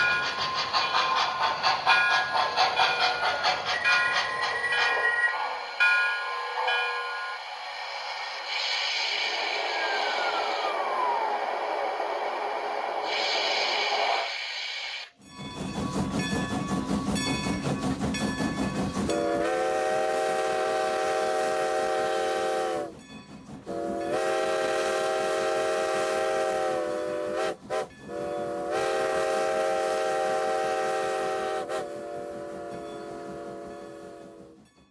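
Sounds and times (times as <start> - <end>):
steam locomotive chuffing: 0.0 - 34.9.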